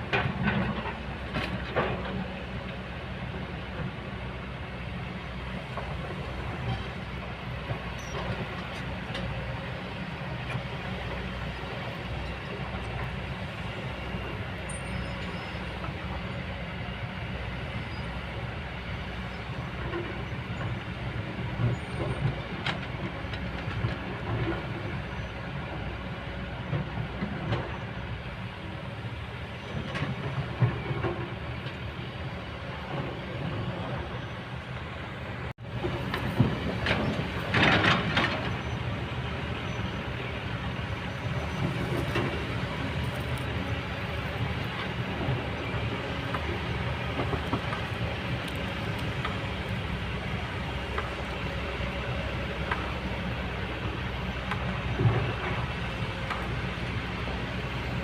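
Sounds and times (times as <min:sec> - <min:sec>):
excavator knocks and clanks: 0:00.0 - 0:04.1, 0:05.5 - 0:16.3, 0:19.4 - 0:25.9, 0:26.6 - 0:28.6, 0:29.4 - 0:32.1, 0:32.7 - 0:34.8, 0:35.7 - 0:57.7
excavator diesel engine running: 0:00.0 - 0:58.0.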